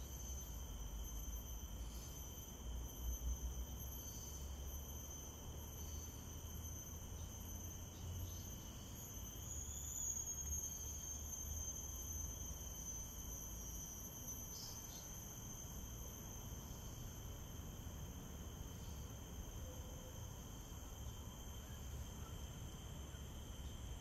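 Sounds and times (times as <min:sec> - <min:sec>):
insects calling: 0:00.0 - 0:24.0.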